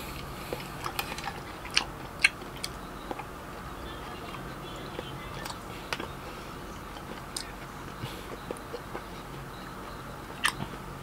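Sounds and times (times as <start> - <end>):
person chewing: 0.0 - 3.7, 5.0 - 10.9
low steady hum: 0.0 - 11.0.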